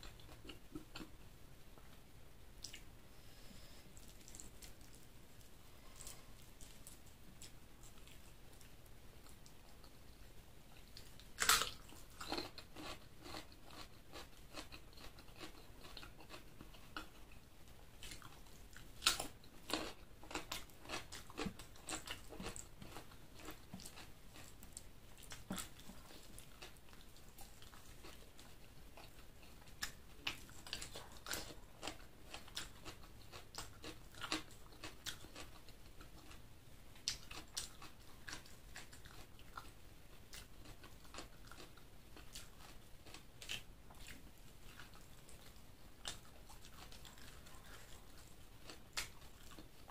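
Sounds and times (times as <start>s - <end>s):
close chewing and biting food: 3.8s - 10.0s, 10.8s - 36.4s, 37.0s - 49.9s.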